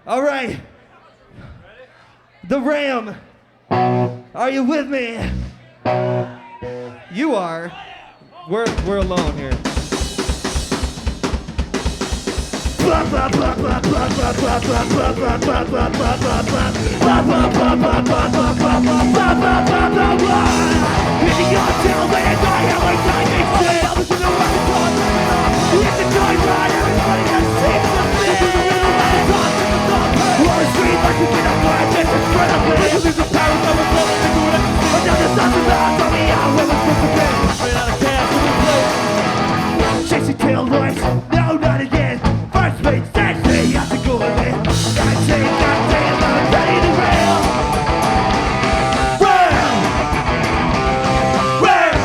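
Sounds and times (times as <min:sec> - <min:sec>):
ska-punk band playing live: 0:08.7 - 0:52.0.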